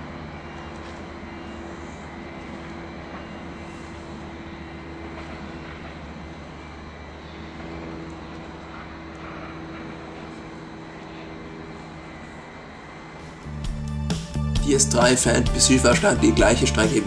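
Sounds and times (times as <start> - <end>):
electric train drone: 0.0 - 17.0
train rolling noise: 0.0 - 17.0.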